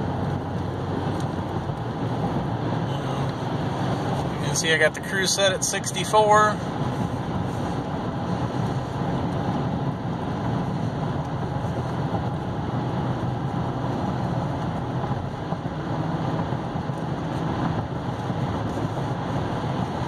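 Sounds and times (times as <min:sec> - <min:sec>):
low engine hum: 0:00.0 - 0:20.0
road and tyre noise: 0:00.0 - 0:20.0.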